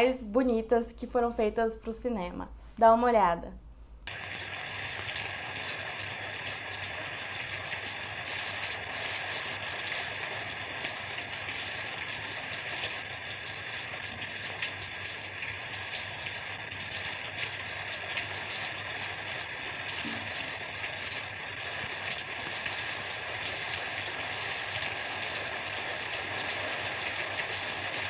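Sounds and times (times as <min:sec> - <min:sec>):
steady rain falling: 0:04.1 - 0:28.0.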